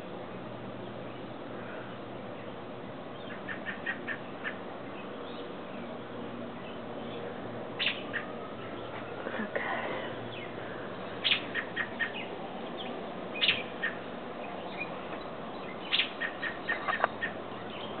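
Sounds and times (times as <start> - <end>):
robin calling: 1.0 - 18.0.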